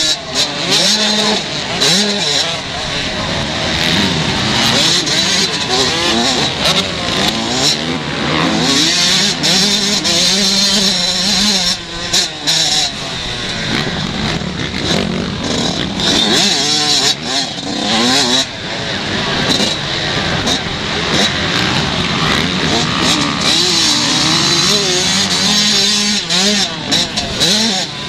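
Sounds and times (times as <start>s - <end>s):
motocross bikes revving past: 0.0s - 28.0s.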